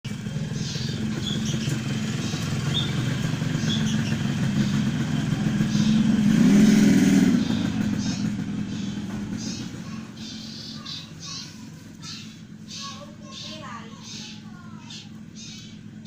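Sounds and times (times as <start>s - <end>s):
motorcycle engine running: 0.0s - 16.0s
young bird chirping: 0.4s - 16.0s.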